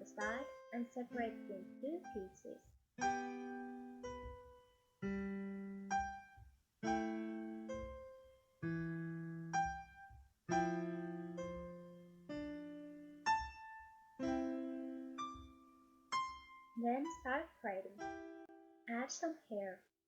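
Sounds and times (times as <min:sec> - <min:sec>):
slow keyboard chords: 0:00.0 - 0:18.6.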